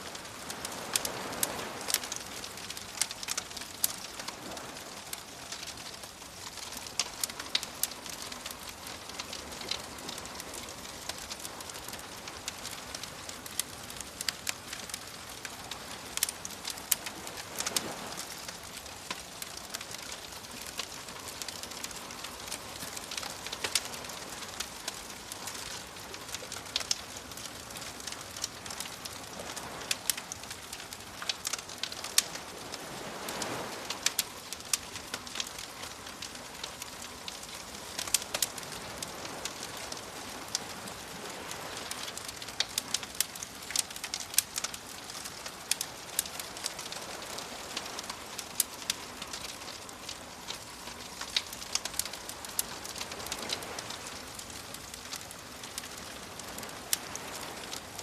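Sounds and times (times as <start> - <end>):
ocean waves washing in: 0.0 - 58.0
wood fire crackling and popping: 0.0 - 58.0.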